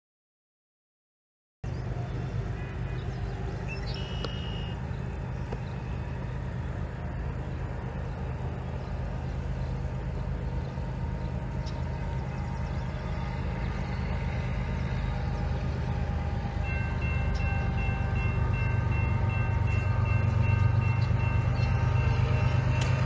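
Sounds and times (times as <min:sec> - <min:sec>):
low engine rumble: 0:01.6 - 0:23.0
outdoor background noise: 0:01.6 - 0:23.0.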